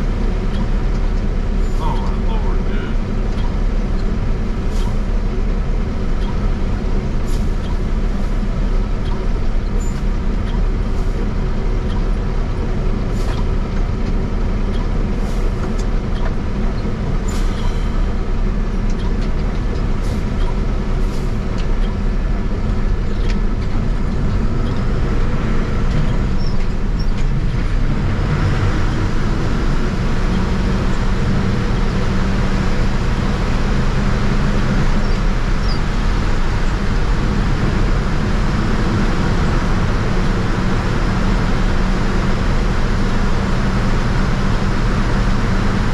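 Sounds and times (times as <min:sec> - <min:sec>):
road noise: 0:00.0 - 0:45.9
vehicle engine running: 0:00.0 - 0:45.9.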